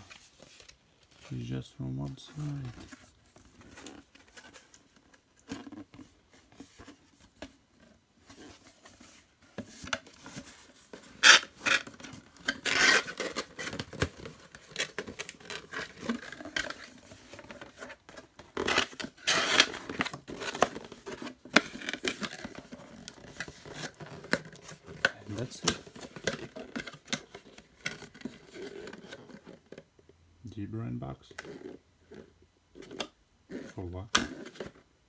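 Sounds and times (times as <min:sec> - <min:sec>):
packaging rustling: 0:00.0 - 0:29.8.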